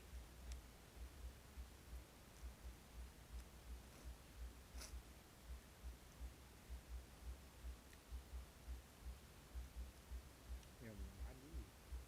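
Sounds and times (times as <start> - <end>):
soft low thuds: 0.0 - 12.0.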